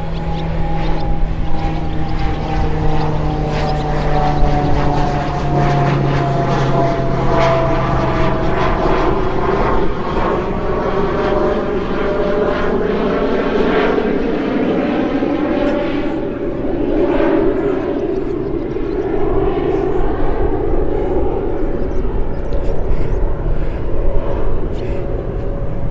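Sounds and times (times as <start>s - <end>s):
aircraft engine drone: 0.0s - 25.9s.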